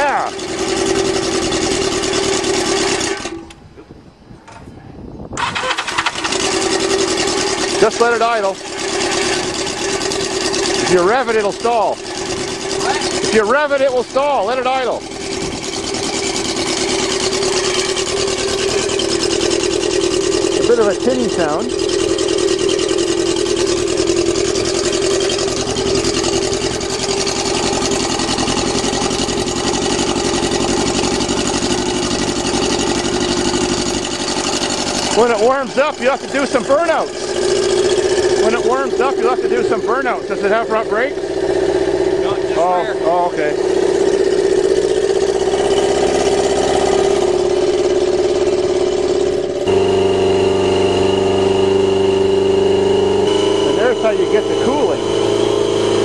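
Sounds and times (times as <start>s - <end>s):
motorcycle engine idling: 0.0s - 3.7s, 5.4s - 56.0s.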